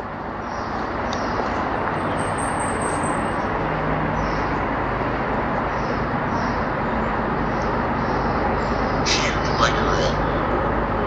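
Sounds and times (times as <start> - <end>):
low engine hum: 0.0 - 11.0
train rumbling past: 0.0 - 11.0.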